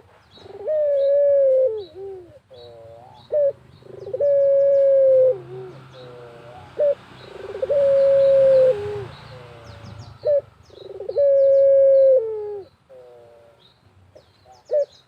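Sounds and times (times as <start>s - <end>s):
dove cooing: 0.0s - 13.6s, 14.4s - 15.0s
small birds chirping: 0.0s - 15.0s.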